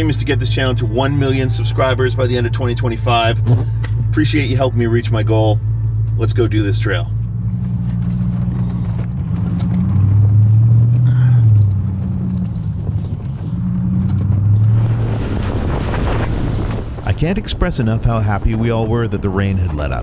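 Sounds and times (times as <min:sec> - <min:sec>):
car engine driving off: 0:00.0 - 0:20.0.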